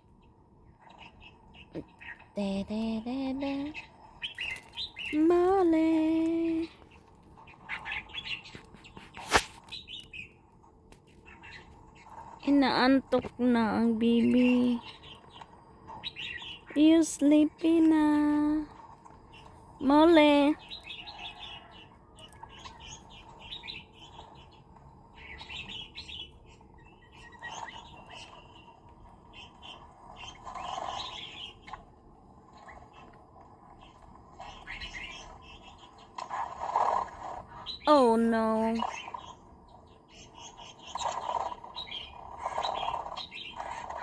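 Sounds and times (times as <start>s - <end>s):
small bird chirping: 0.0s - 44.0s.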